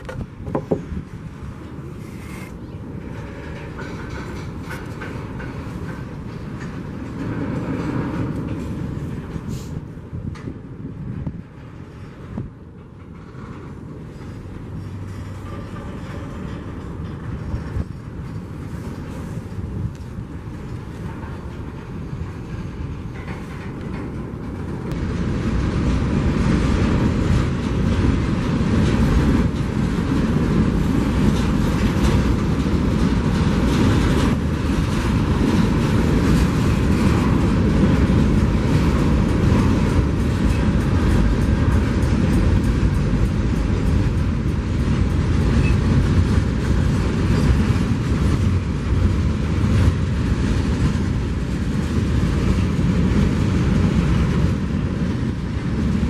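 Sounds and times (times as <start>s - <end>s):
train wheels clattering on rails: 0.0s - 56.0s.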